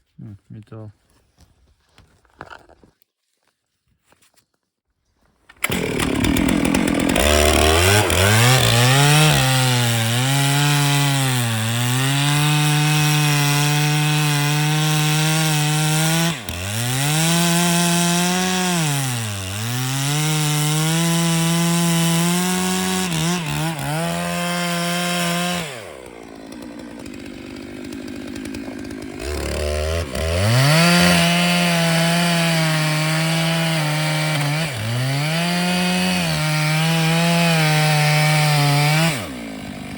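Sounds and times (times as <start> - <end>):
chainsaw ripping a log: 5.4 - 39.9.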